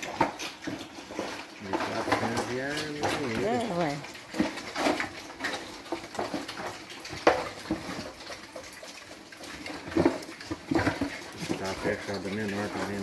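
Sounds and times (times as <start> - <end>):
pigs slurping and chomping: 0.0 - 13.0.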